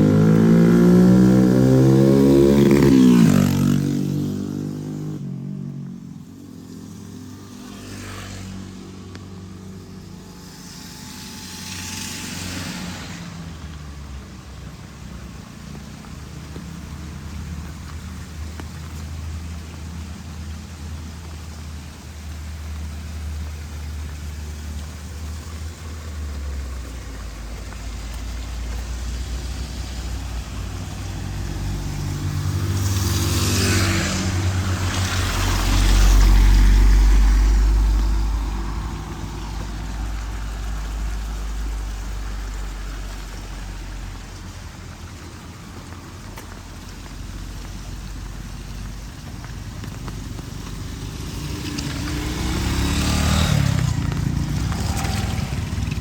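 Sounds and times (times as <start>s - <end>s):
rain hissing: 0.0s - 56.0s
vehicle passing by: 0.0s - 56.0s.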